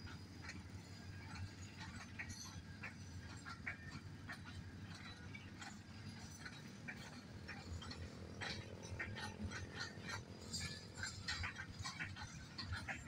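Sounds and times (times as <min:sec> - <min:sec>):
freight train rumbling past: 0:00.0 - 0:13.0
wheels and couplings clinking: 0:00.0 - 0:13.0.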